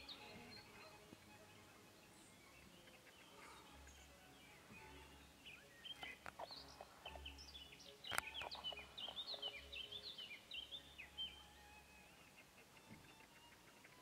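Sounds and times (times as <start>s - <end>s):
small birds twittering: 0.0s - 14.0s.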